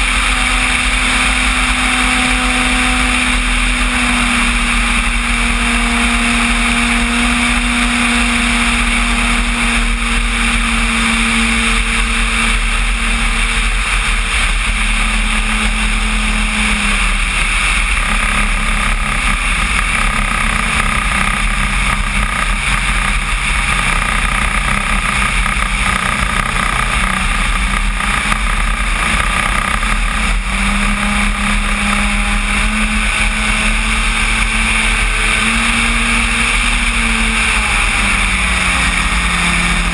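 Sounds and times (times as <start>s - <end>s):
electric motor and propeller drone: 0.0s - 39.9s
rushing air: 0.0s - 39.9s.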